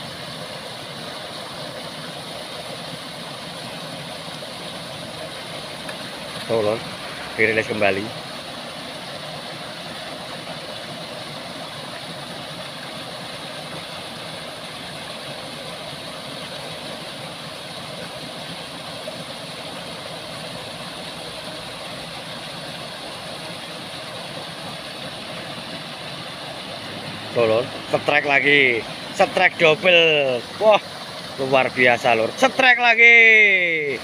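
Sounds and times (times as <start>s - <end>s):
water rushing over weir: 0.0s - 34.0s.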